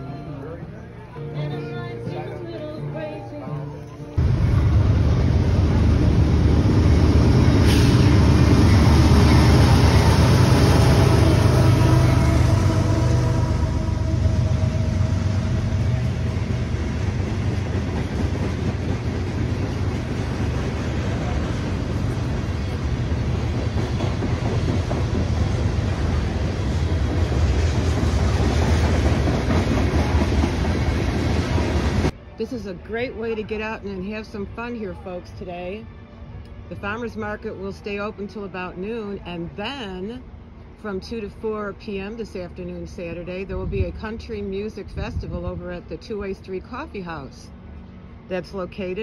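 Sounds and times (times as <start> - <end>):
diesel locomotive engine rumble: 0.0 - 49.0
train wheel and rail noise: 0.0 - 49.0.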